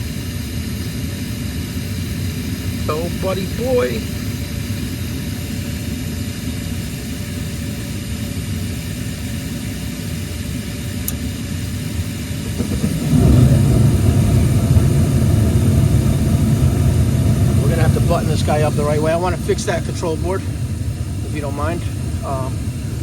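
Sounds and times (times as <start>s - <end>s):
gas furnace rumbling: 0.0s - 23.0s.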